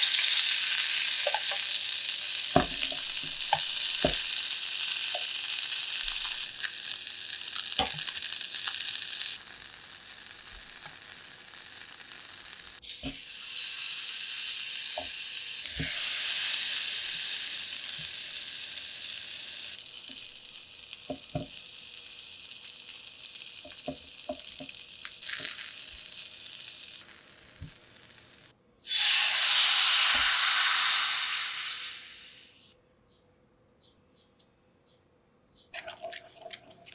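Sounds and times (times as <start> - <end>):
food sizzling in frying pan: 0.0 - 32.7
liquid hissing in hot pan: 0.0 - 32.7.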